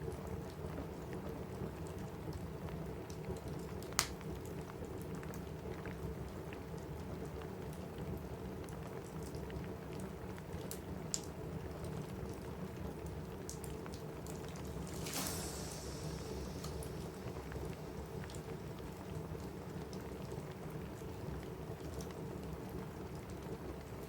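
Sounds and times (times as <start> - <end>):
rain on a roof: 0.0 - 24.0
wood fire crackling and popping: 1.9 - 8.0, 8.6 - 23.9.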